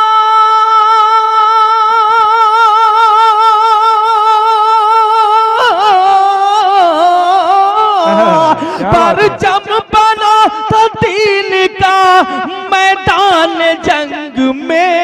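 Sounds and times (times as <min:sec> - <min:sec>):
man singing through microphone: 0:00.0 - 0:15.0.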